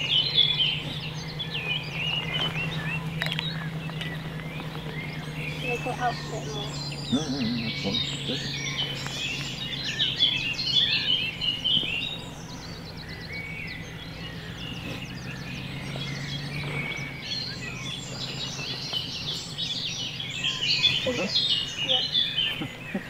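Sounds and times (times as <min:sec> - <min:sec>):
songbirds chirping and trilling: 0:00.0 - 0:23.0
steady low hum: 0:00.0 - 0:23.0.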